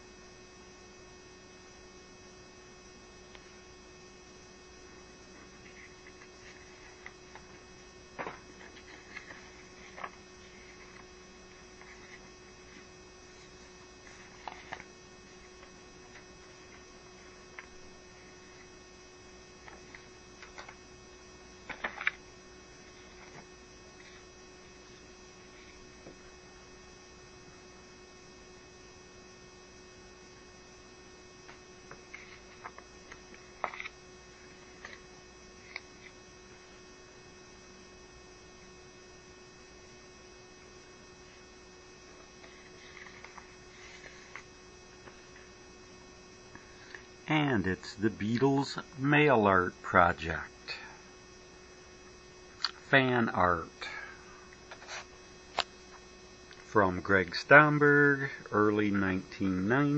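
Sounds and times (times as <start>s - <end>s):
faint constant tone: 0.0s - 59.9s
low electrical hum: 0.0s - 59.9s.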